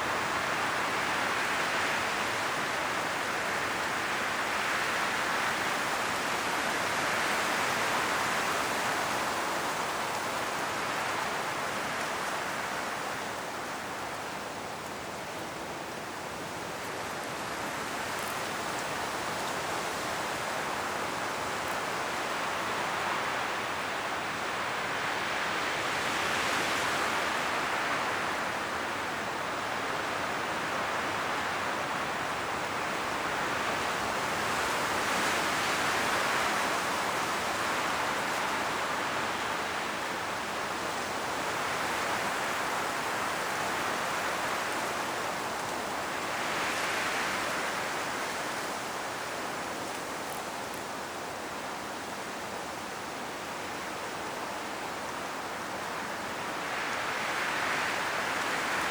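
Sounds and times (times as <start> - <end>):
strong wind through trees: 0.0 - 58.9.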